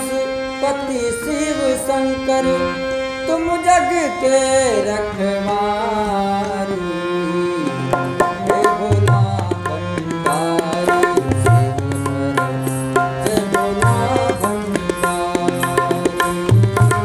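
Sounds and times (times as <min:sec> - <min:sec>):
harmonium melody: 0:00.0 - 0:17.0.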